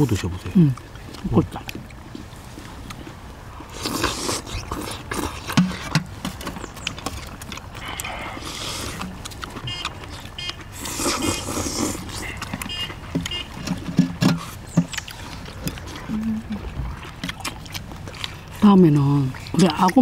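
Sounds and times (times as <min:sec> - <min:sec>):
chewing: 0:00.0 - 0:20.0
loud slurping: 0:02.7 - 0:20.0.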